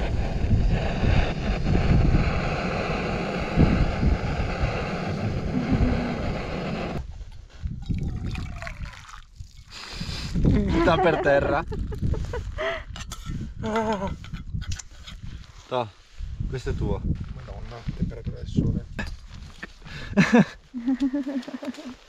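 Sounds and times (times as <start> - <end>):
wind buffeting microphone: 0.0 - 15.5, 16.1 - 20.2.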